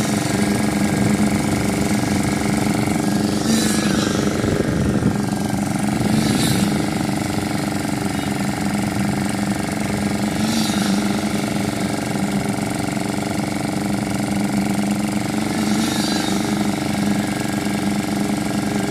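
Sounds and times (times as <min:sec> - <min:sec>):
construction machinery engine droning: 0:00.0 - 0:18.9.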